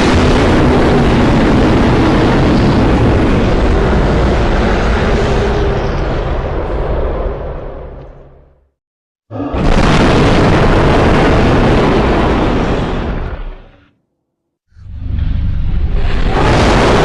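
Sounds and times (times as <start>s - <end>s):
loud rumbling roar: 0.0s - 8.0s, 9.3s - 13.8s, 14.8s - 17.0s.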